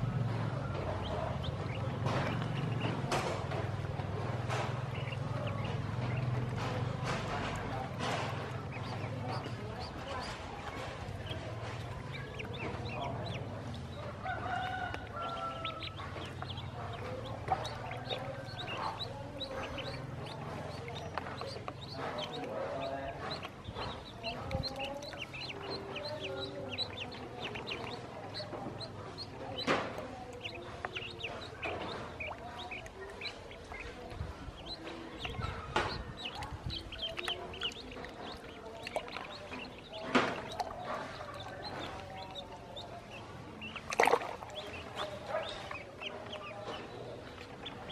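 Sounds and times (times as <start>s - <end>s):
ducklings peeping: 0.0s - 47.9s.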